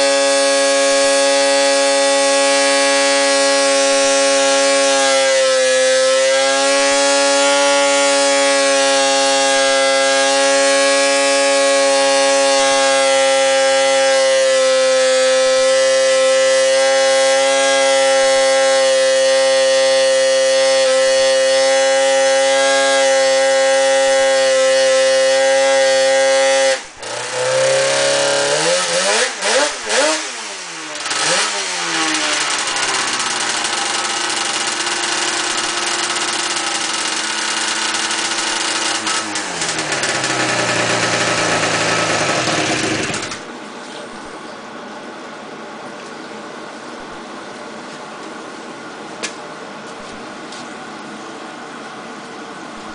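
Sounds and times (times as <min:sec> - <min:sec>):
snowmobile engine revving: 0:00.0 - 0:43.5.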